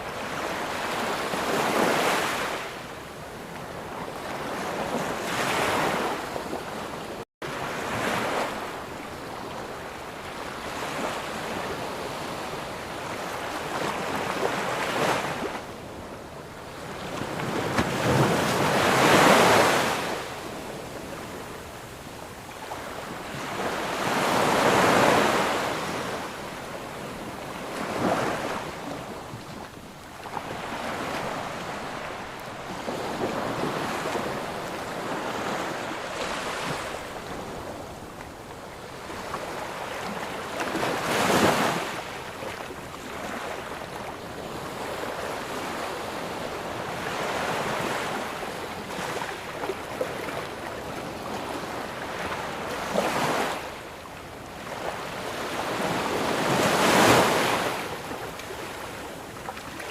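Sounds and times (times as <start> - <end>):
waves breaking on beach: 0.0 - 59.9.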